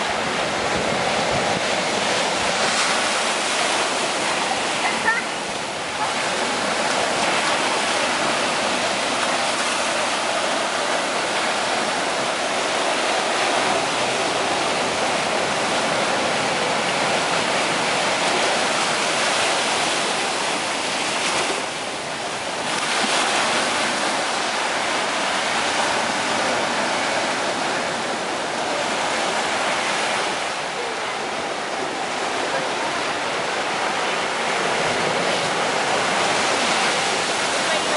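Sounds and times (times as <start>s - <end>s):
ocean surf breaking on beach: 0.0s - 37.9s.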